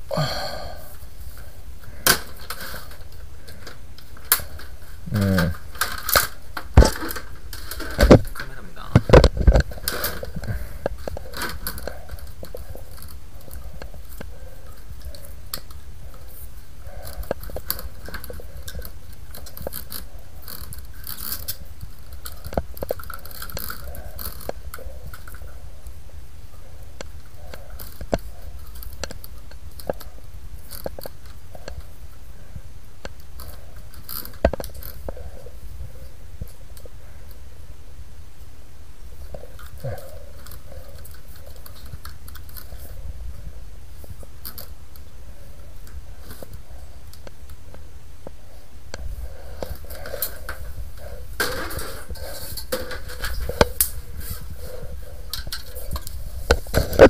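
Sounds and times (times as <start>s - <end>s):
handling noise rustling and scraping: 0.9s - 37.5s, 39.1s - 57.0s.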